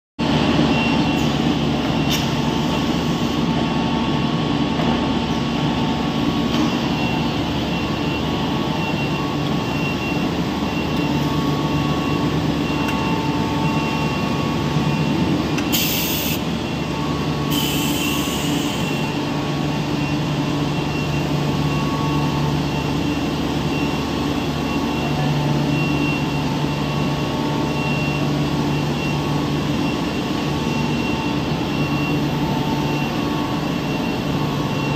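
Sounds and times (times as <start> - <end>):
machine droning: 0.2 - 34.9.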